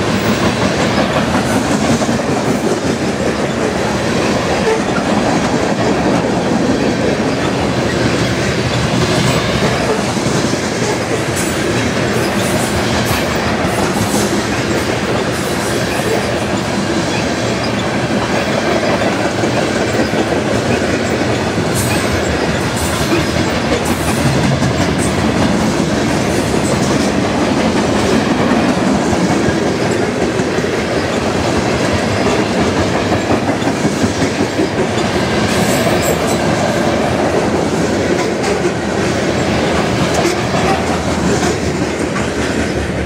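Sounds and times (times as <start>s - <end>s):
freight cars rolling on rails: 0.0s - 43.0s
train wheels clicking: 0.0s - 43.0s.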